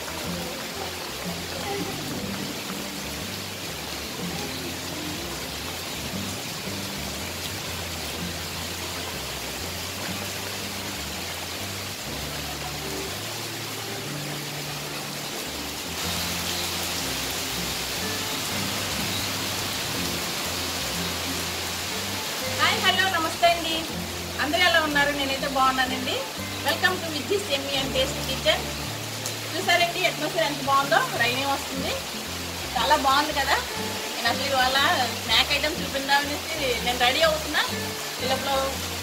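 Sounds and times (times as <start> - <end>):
heavy rain falling: 0.0 - 39.0
low background music: 0.0 - 39.0.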